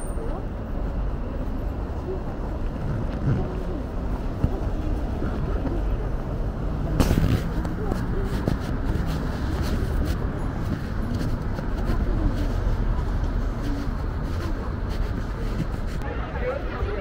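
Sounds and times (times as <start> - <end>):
faint indistinct voices: 0.0 - 17.0
low rumble of traffic: 0.0 - 17.0.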